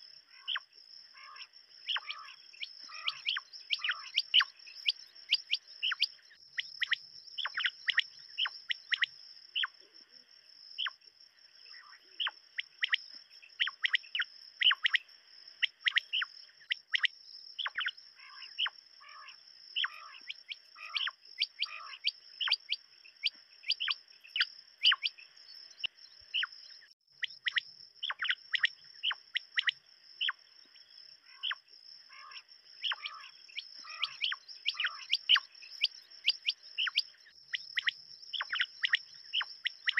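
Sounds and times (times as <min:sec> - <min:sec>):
quails chirping calls: 0:00.0 - 0:09.9, 0:10.8 - 0:11.0, 0:11.6 - 0:30.4, 0:31.2 - 0:39.9.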